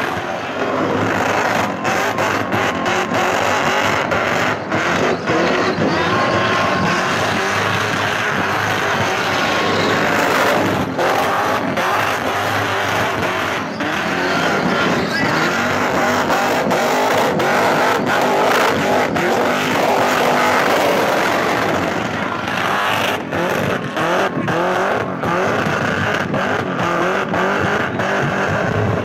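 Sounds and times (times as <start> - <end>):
tyres spinning on track: 0.0 - 28.5
car engine revving hard: 0.0 - 29.0.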